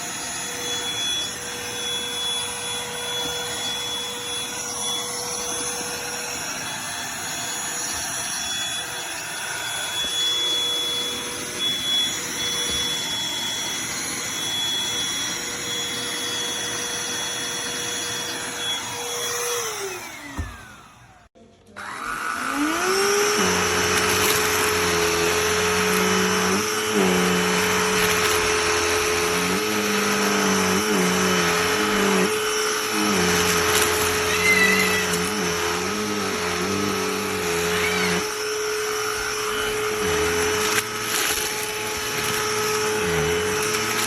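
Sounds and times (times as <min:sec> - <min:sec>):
handheld vacuum motor whining: 0:00.0 - 0:44.0.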